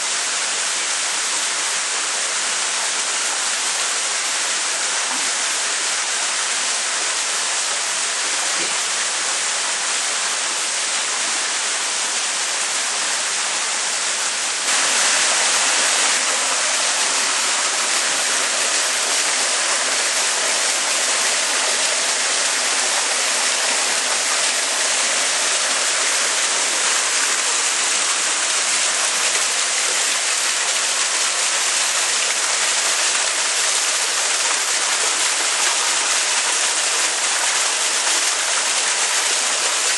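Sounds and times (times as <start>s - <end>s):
water splashing in a tank: 0.0s - 39.9s.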